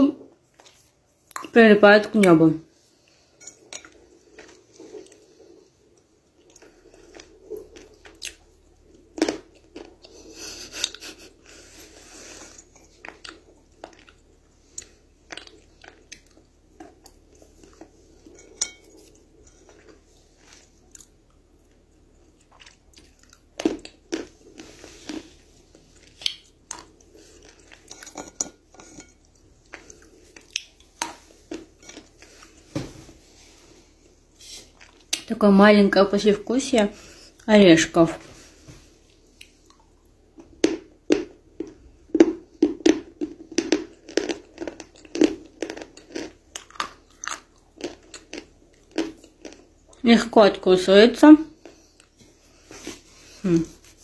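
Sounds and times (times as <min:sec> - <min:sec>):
person chewing: 0:02.9 - 0:35.3, 0:38.4 - 0:50.0.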